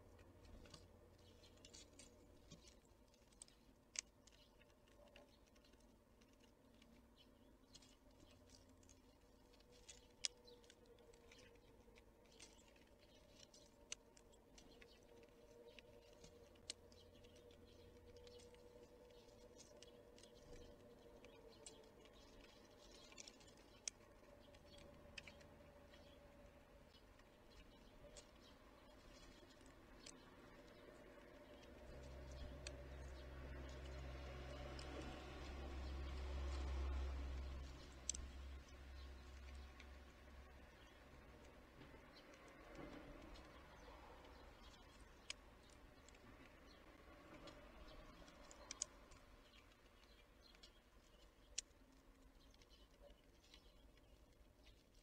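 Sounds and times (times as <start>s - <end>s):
animals pecking at feeder: 0.0s - 55.0s.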